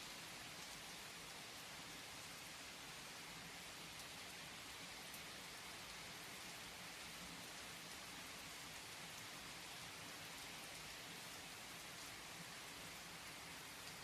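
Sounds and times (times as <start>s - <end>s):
faint ticks of raindrops: 0.0s - 14.0s
steady rain hissing: 0.0s - 14.0s.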